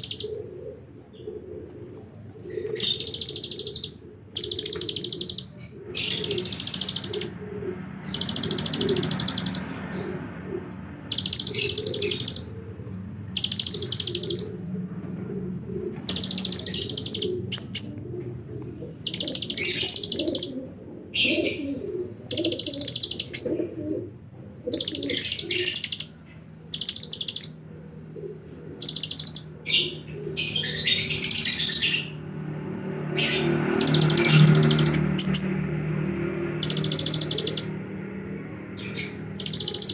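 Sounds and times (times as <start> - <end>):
bird singing buzzing trills: 0.0 - 39.9.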